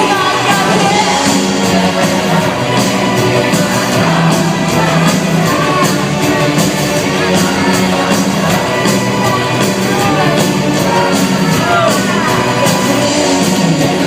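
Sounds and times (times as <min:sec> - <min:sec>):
drum beat with cymbals: 0:00.0 - 0:14.0
live rock band: 0:00.0 - 0:14.0.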